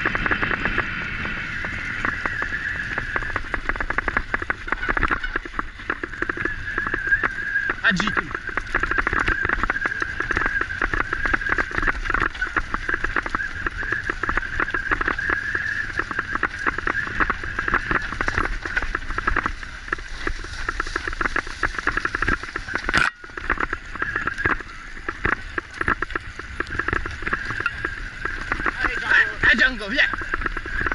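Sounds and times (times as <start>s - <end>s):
mountain bike rattling and bumping: 0.0s - 30.9s.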